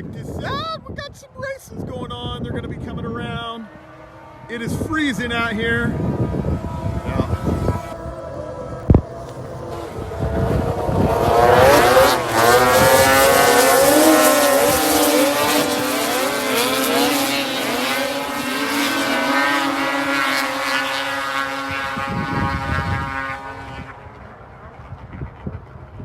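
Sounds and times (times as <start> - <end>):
snowmobile engines revving: 0.0 - 25.4.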